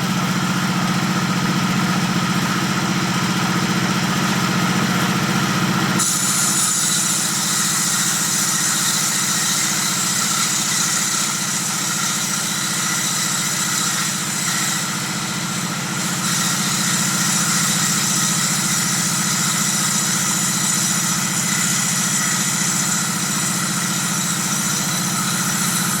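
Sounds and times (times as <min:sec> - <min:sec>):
table saw running: 0:00.0 - 0:26.0.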